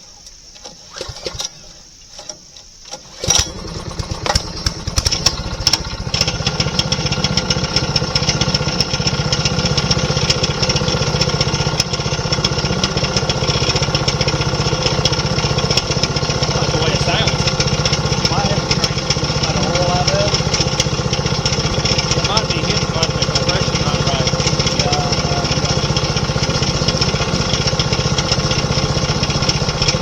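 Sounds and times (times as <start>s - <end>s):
small engine starting and running: 0.6s - 30.0s.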